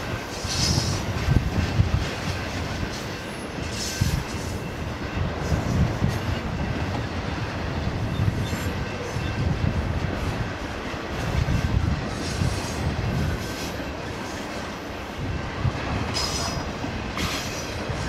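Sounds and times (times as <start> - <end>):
freight cars rumbling on rails: 0.0 - 18.0.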